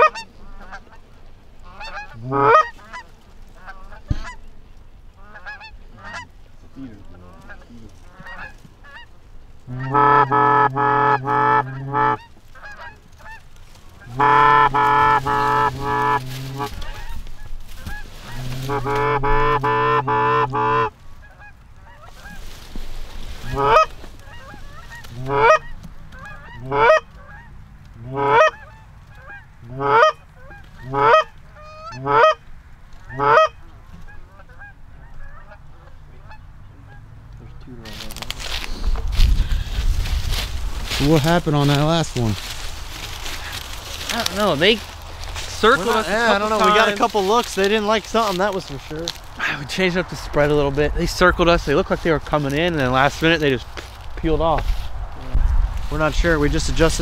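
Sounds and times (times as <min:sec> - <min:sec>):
goose calls clucking and growling: 0:00.0 - 0:01.0, 0:01.6 - 0:04.5, 0:05.2 - 0:32.4, 0:33.0 - 0:57.0
geese honking: 0:00.0 - 0:57.0.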